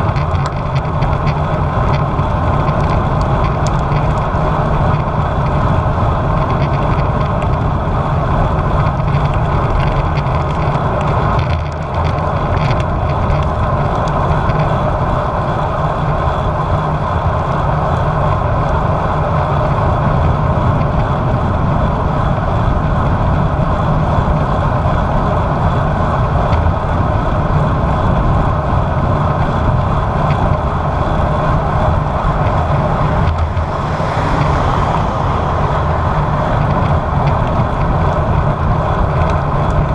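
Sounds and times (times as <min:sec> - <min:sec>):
road and tyre noise: 0:00.0 - 0:39.9
wind rushing over microphone: 0:00.0 - 0:39.9.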